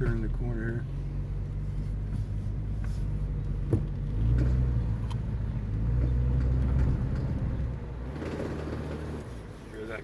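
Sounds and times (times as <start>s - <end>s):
car engine from inside cabin: 0.0s - 10.0s.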